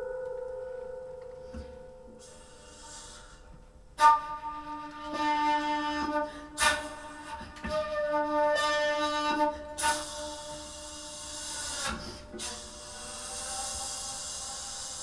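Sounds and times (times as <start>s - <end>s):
flute through effect pedals: 0.0s - 15.0s.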